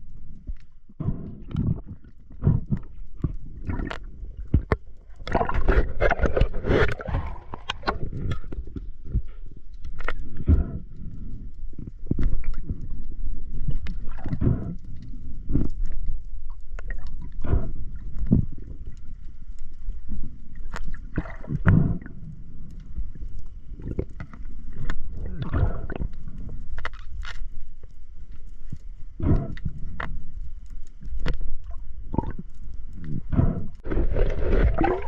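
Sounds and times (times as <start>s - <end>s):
water bubbling: 0.0s - 9.2s, 10.2s - 27.0s, 29.0s - 30.4s, 31.0s - 35.0s
water sloshing and gurgling: 0.0s - 35.0s.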